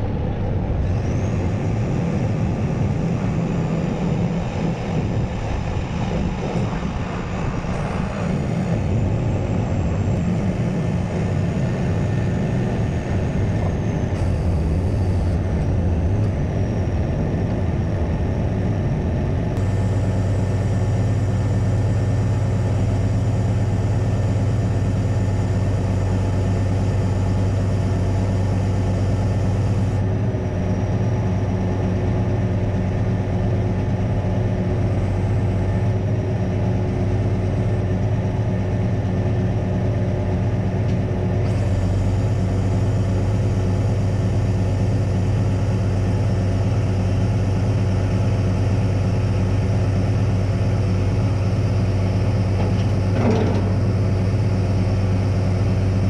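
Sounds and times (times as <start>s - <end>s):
truck engine low hum: 0.0s - 56.0s.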